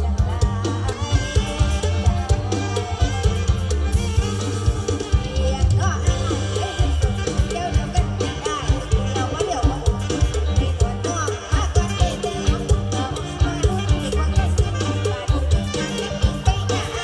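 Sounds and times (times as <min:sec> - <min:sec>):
live band dance music: 0:00.0 - 0:17.0.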